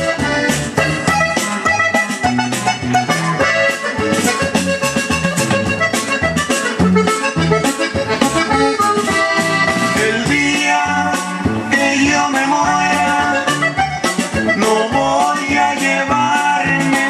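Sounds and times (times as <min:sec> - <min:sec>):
accordion dance music: 0:00.0 - 0:17.0.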